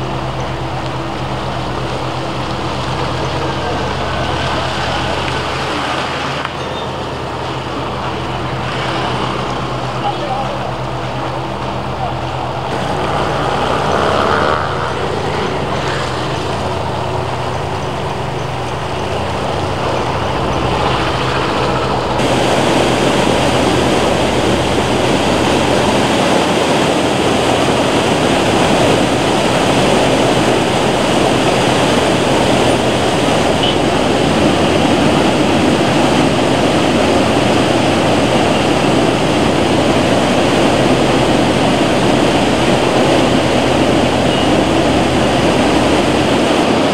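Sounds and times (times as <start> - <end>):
river rushing over a weir: 0.0 - 46.9.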